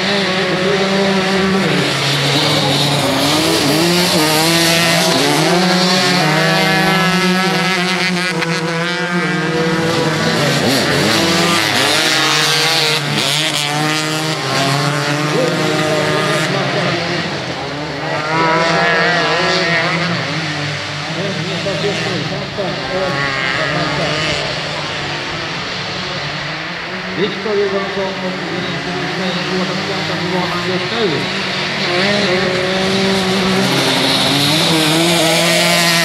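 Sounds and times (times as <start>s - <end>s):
racing engines revving: 0.0s - 36.0s.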